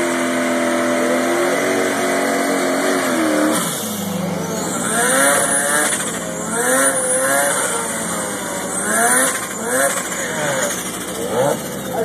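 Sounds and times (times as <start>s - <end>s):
rotary engine revving: 0.0s - 12.0s.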